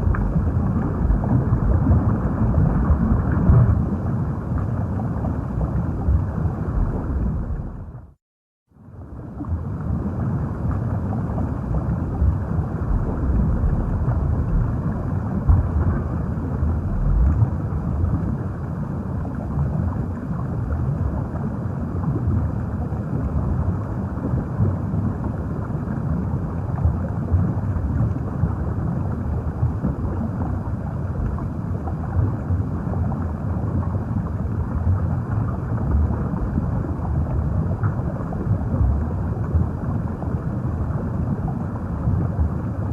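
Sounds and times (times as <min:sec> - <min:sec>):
muffled underwater rumble: 0:00.0 - 0:42.9.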